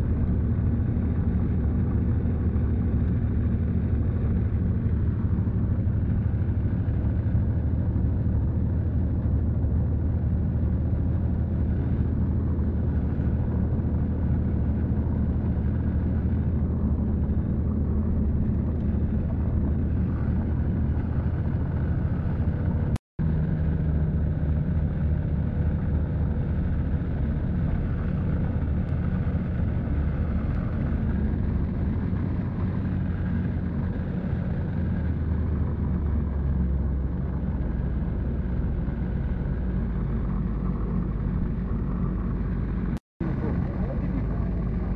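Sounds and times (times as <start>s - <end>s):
road noise: 0.0s - 44.9s
vehicle engine rumble: 0.0s - 44.9s.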